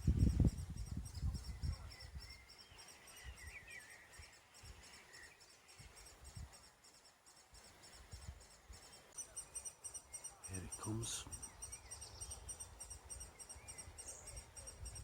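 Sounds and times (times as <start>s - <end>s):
bird warbling song: 0.0s - 15.0s.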